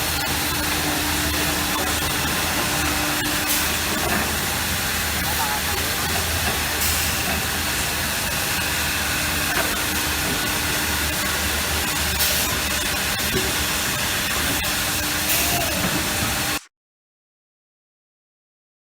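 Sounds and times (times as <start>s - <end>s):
wood router hissing and humming: 0.0s - 16.6s.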